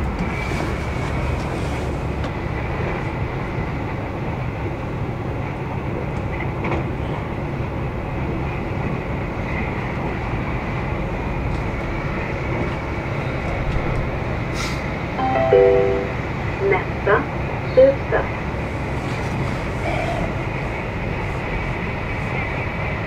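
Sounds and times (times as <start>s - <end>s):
train wheels rumbling on rail: 0.0s - 15.2s, 16.7s - 23.0s.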